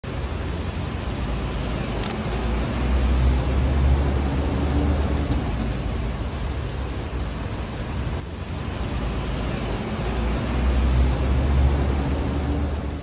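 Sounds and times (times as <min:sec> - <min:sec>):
steady city hiss: 0:00.0 - 0:13.0.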